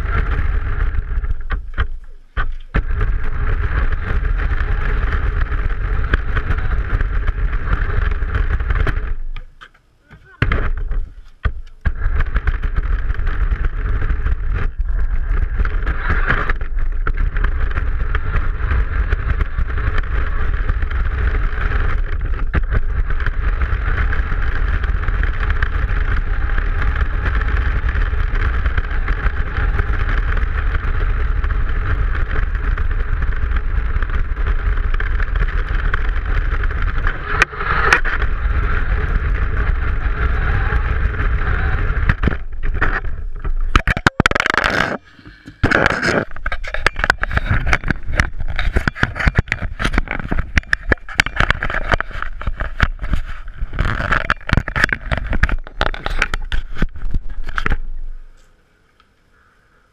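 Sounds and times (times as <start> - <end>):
wheels rumbling and chassis rattling: 0.0 - 59.1.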